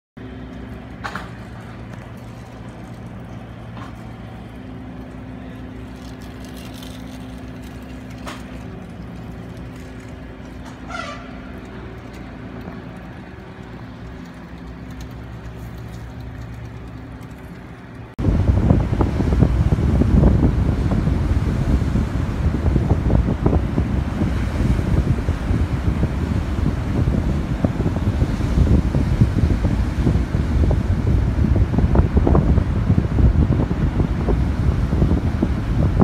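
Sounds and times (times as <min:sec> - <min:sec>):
vehicle engine idling: 0:00.2 - 0:36.0.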